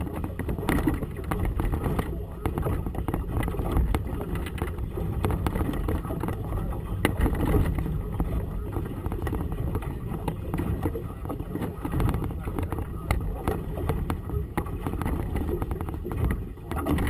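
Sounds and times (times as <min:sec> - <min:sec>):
water slapping boat hull: 0:00.0 - 0:17.0
wind buffeting microphone: 0:00.0 - 0:17.0.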